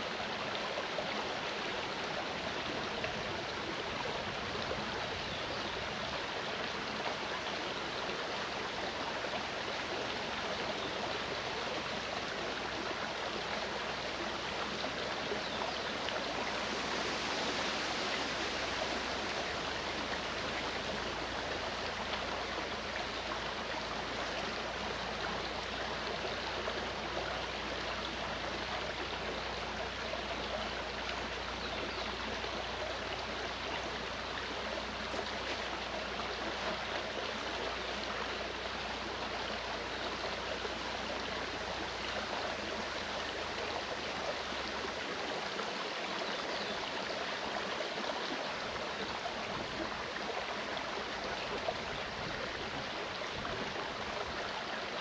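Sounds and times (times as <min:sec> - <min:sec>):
stream flowing and gurgling: 0:00.0 - 0:55.0.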